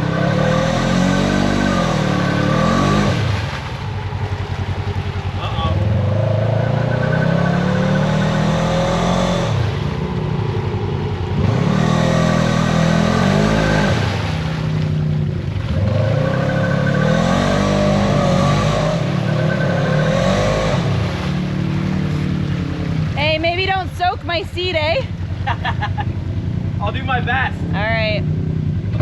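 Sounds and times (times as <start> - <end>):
engine revving under load: 0.0 - 23.3.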